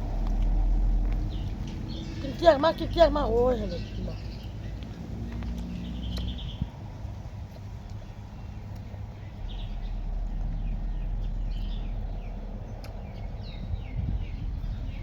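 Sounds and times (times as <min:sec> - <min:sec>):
birds chirping falling calls: 0:00.0 - 0:06.8, 0:07.6 - 0:15.0
steady low rumble: 0:00.0 - 0:15.0.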